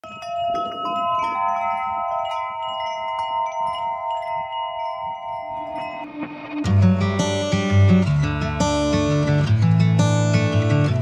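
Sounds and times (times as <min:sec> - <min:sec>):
metal wind chime ringing: 0:00.0 - 0:11.0.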